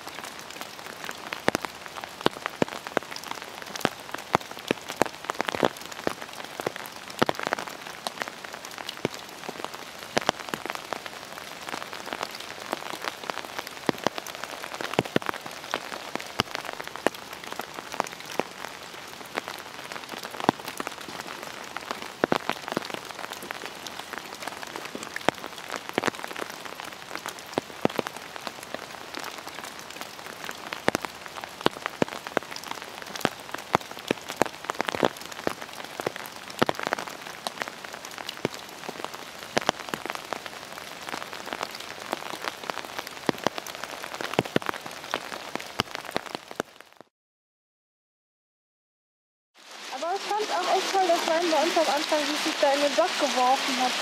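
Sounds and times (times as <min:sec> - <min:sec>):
steady rain hiss: 0:00.0 - 0:46.9, 0:49.6 - 0:54.0
raindrops tapping close by: 0:00.0 - 0:47.1, 0:49.6 - 0:54.0.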